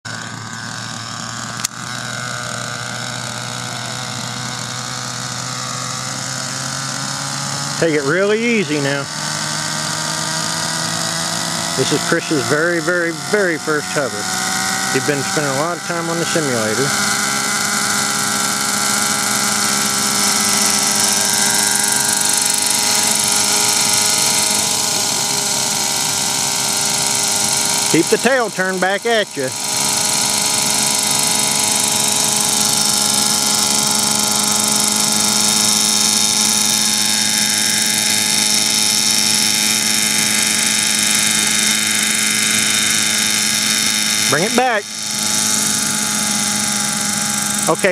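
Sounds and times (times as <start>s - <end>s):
model helicopter droning: 0.0s - 47.9s
rotor blades whirring: 0.0s - 47.9s.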